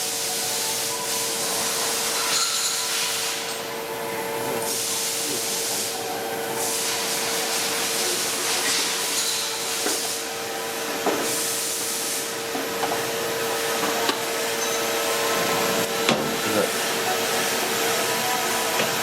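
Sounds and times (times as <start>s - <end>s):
machinery hissing and humming: 0.0s - 19.0s.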